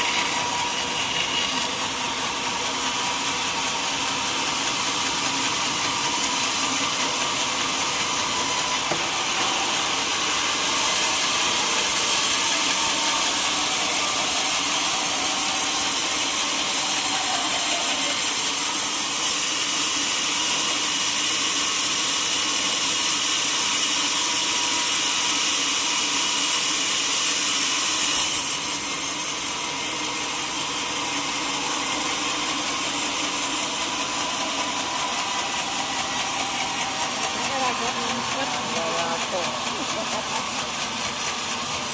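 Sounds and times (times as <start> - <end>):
sawmill saw cutting log: 0.0 - 41.9.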